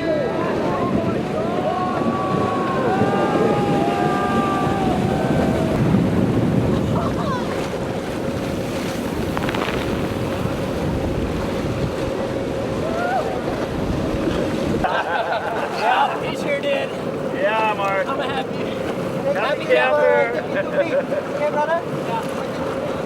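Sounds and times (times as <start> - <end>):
ocean surf: 0.0 - 23.0
wind buffeting microphone: 0.0 - 23.0.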